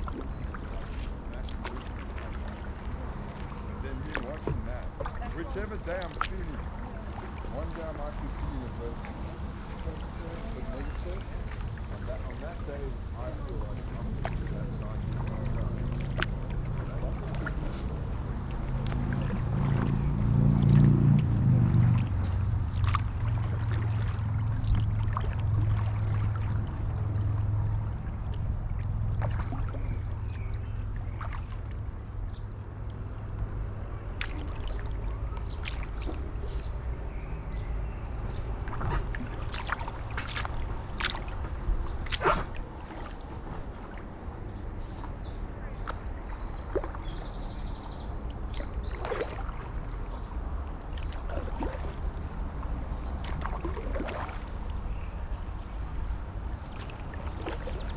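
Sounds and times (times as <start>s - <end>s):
paddle splashing in water: 0.0s - 57.9s
wind rumble on microphone: 0.0s - 57.9s.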